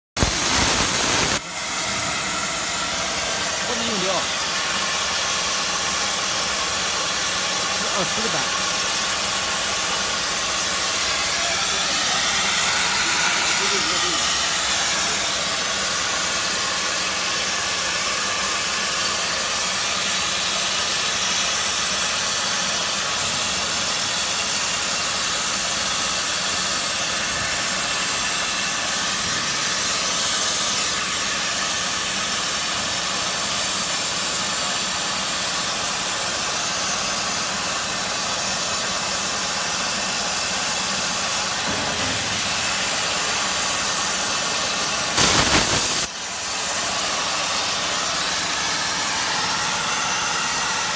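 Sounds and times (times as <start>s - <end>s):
plasma torch hissing: 0.2s - 50.9s.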